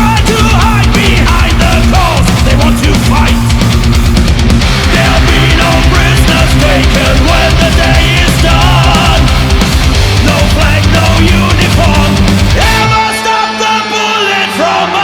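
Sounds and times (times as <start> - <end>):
heavy metal music: 0.0 - 15.0.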